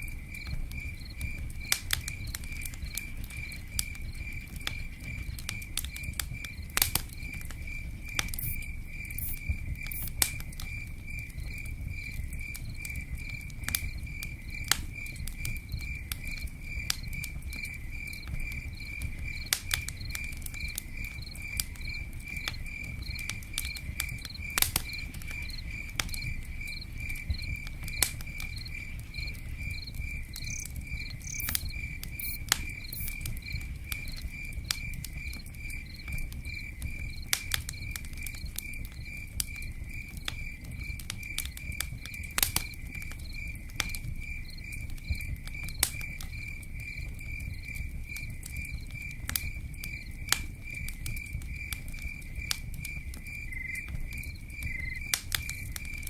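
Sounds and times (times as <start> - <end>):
campfire crackling: 0.0 - 56.0
cricket chirping: 0.0 - 56.0.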